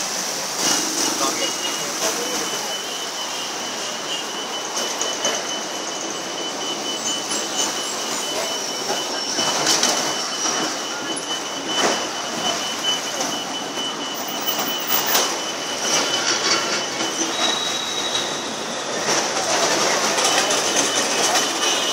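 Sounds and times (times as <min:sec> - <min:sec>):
city traffic: 0:00.0 - 0:21.9
thin high whine: 0:00.6 - 0:21.9.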